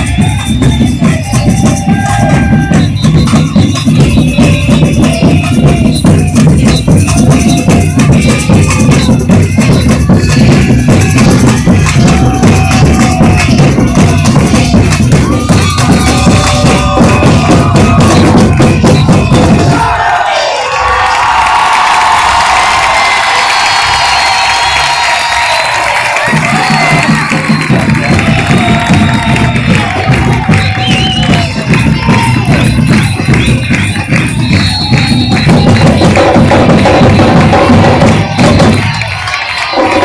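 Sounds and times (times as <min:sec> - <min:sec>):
bass drums: 0:00.0 - 0:20.1, 0:22.3 - 0:40.0
shakers and jingles: 0:00.0 - 0:20.1, 0:23.5 - 0:40.0
samba drum rhythm: 0:00.0 - 0:40.0.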